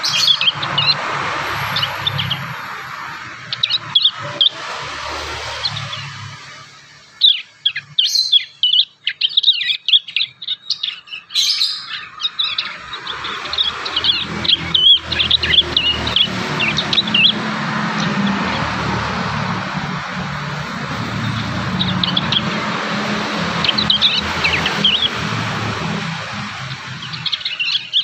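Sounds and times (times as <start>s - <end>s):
young birds chirping and trilling: 0.0s - 28.0s.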